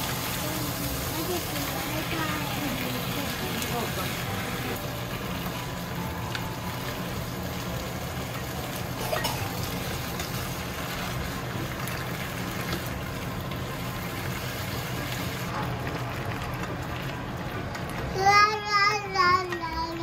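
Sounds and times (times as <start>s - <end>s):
meat sizzling in a frying pan: 0.0s - 19.1s.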